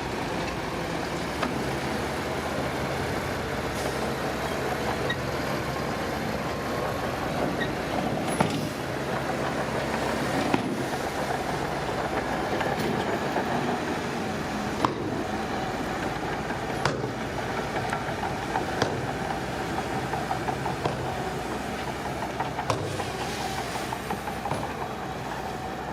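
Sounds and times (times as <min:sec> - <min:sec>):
diesel construction machinery running: 0:00.0 - 0:25.9.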